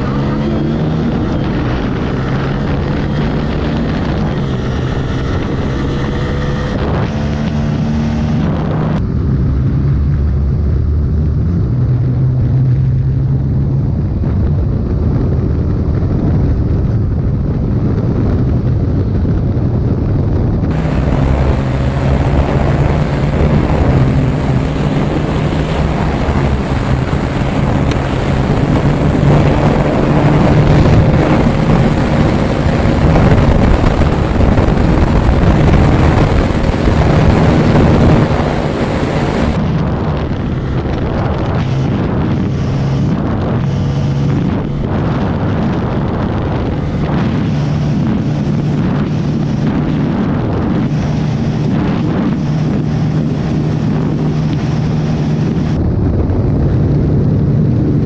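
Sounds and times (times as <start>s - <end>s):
motorcycle engine at full throttle: 0.0s - 58.0s
wind rushing over microphone: 0.0s - 58.0s.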